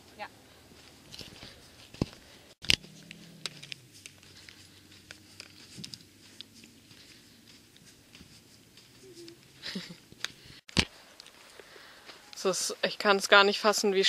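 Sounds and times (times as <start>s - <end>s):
footsteps in soft sand: 0.0s - 12.8s.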